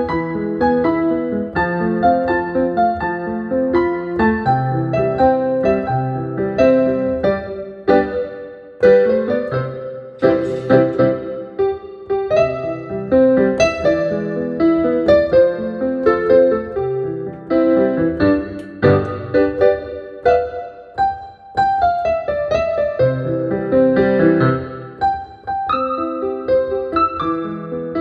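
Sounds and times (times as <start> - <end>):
digital piano melody: 0.0 - 28.0.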